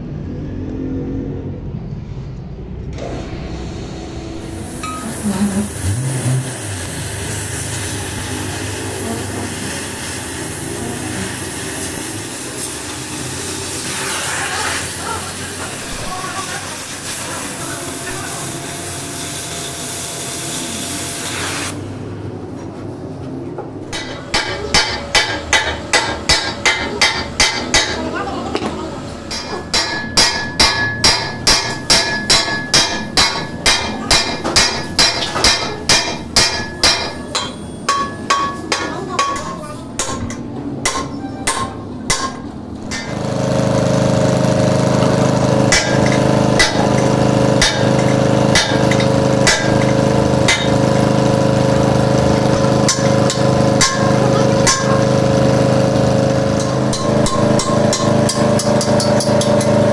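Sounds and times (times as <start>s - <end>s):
engine running: 0.0s - 38.1s, 39.8s - 59.9s.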